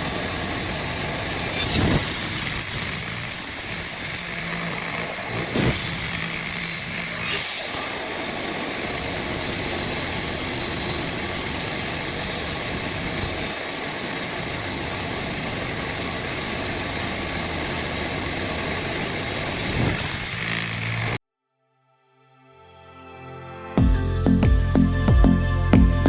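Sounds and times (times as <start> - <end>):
band sawmill running: 0.0 - 21.2.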